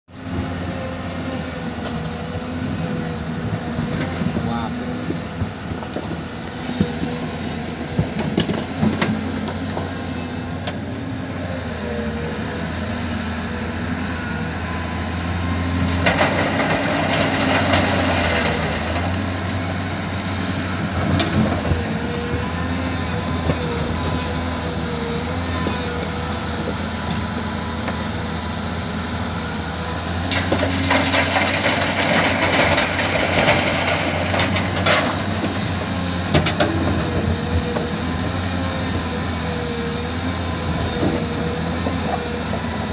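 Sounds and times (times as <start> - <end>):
heavy machinery diesel drone: 0.1 - 42.9.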